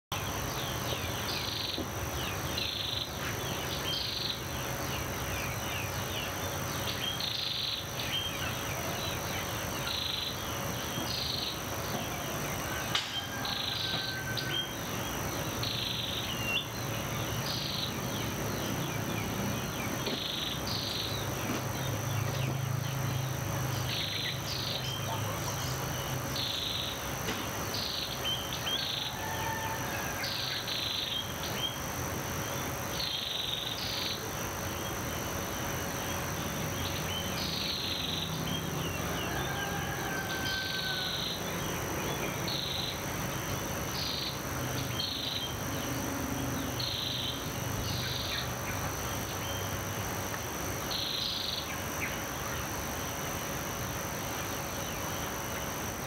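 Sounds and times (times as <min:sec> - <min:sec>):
high insect trill: 0:00.1 - 0:56.0.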